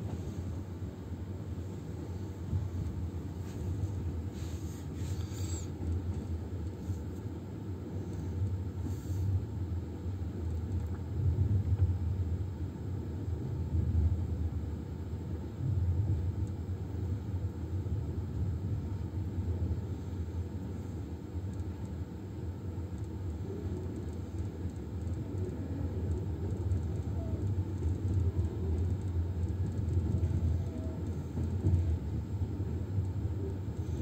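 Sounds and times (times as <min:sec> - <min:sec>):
train carriage rumble: 0:00.0 - 0:34.0.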